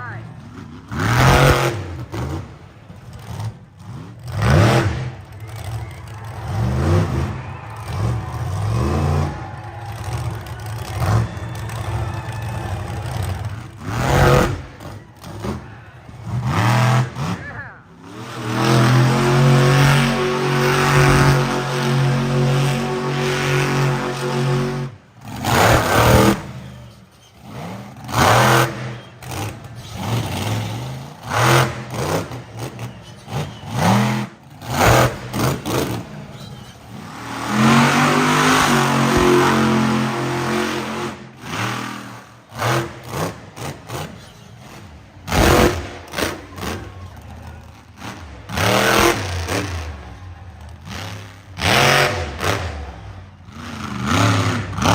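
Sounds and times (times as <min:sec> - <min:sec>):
monster truck engine revving: 0:00.0 - 0:54.9.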